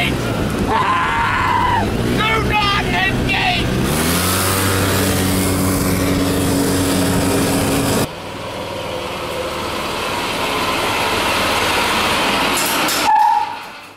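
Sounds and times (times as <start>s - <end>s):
golf cart engine running: 0.0s - 12.9s
wind and road hiss: 1.5s - 13.9s.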